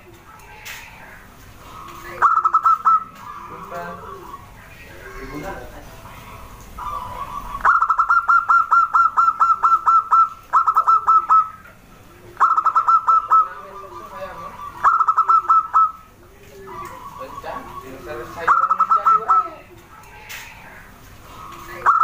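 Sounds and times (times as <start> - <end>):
faint low drawn-out bird notes: 0.0 - 22.0.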